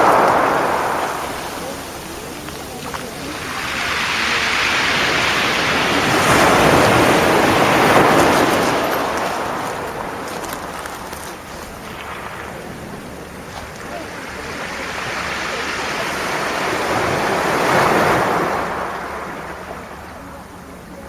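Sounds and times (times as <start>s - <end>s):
sea waves breaking on beach: 0.0s - 21.0s.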